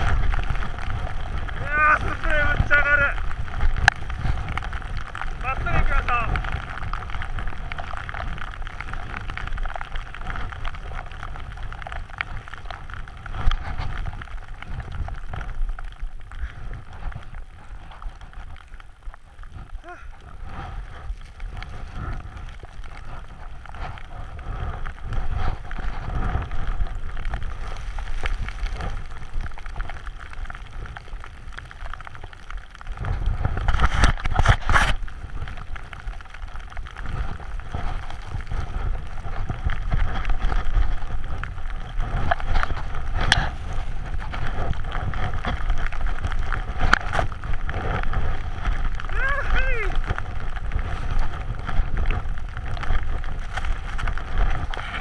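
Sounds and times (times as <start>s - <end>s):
snowboard rushing through powder: 0.0s - 18.6s, 19.2s - 55.0s
wind buffeting microphone: 0.0s - 55.0s.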